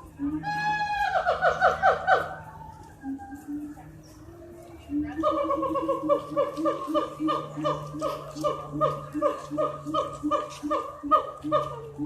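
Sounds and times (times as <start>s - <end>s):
monkey hooting: 0.0s - 3.8s, 4.8s - 12.0s.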